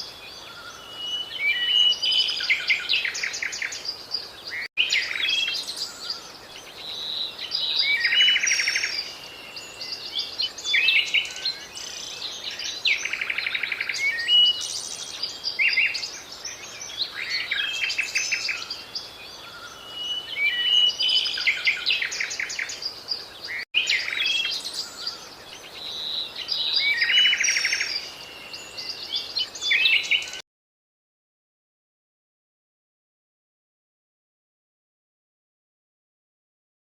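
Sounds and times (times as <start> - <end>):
songbirds singing: 0.0 - 30.4.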